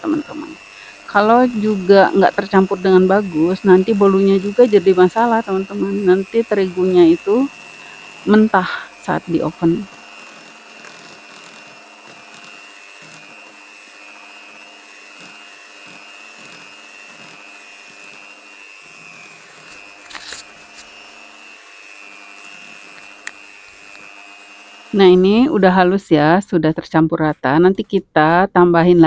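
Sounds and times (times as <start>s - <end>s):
electric hand mixer whine: 0.0s - 29.0s.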